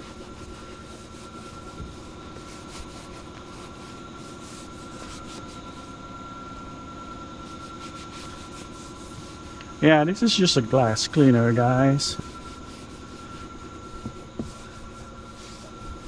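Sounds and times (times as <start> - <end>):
cloth wiping car door: 0.0 - 16.0.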